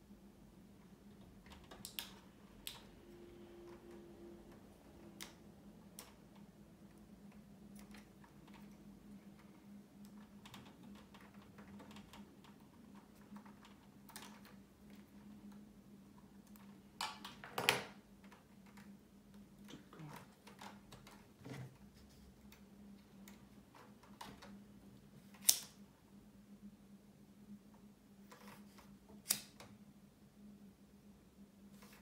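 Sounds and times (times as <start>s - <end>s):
faint steady low hum: 0.0s - 32.0s.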